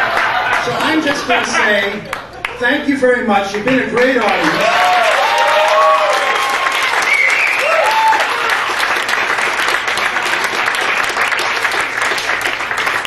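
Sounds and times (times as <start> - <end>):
audience applauding: 0.0 - 2.6, 3.6 - 13.0.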